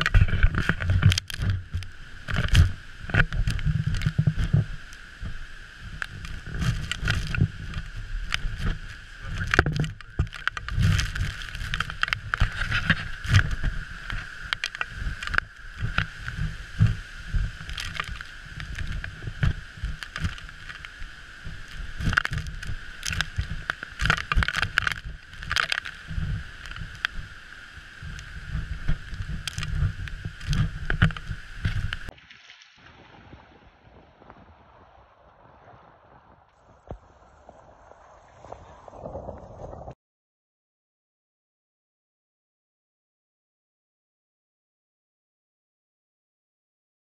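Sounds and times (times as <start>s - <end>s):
wind buffeting microphone: 0.0s - 32.1s, 33.0s - 40.0s.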